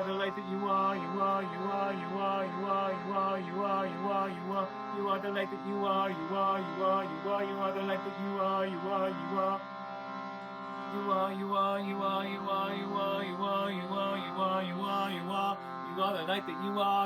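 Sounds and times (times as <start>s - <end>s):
person singing wordlessly: 0.0s - 9.7s, 10.9s - 17.0s
steady held drone: 0.0s - 17.0s.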